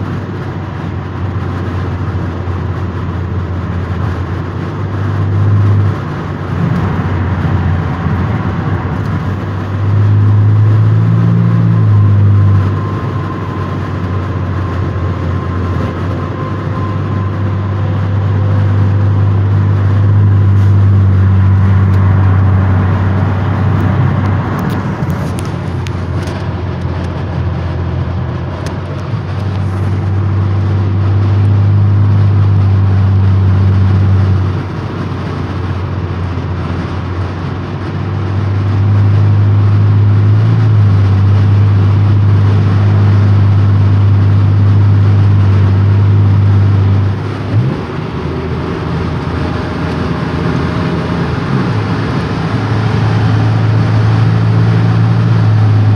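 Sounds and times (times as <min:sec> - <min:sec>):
car engine droning: 0:00.0 - 0:55.9
tyre and road noise: 0:00.0 - 0:55.9.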